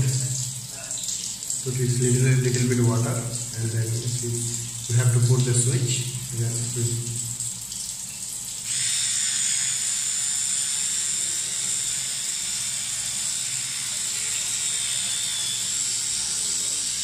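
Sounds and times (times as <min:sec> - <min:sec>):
electric toothbrush buzzing: 0:00.0 - 0:07.2, 0:08.0 - 0:17.0.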